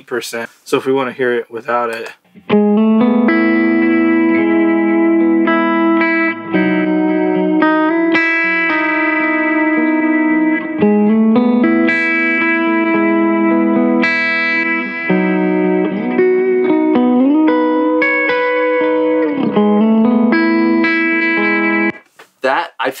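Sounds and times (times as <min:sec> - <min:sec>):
electric guitar chords and notes: 0:02.2 - 0:22.1.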